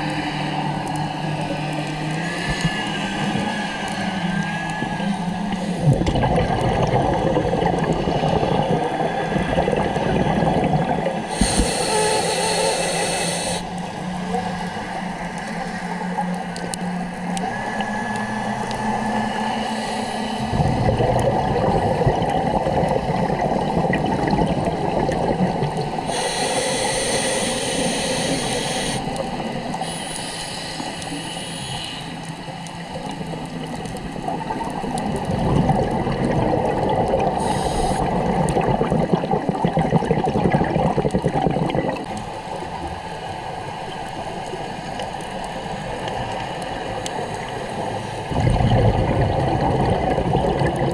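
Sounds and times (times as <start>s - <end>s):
underwater bubbles gurgling: 0.0s - 50.9s.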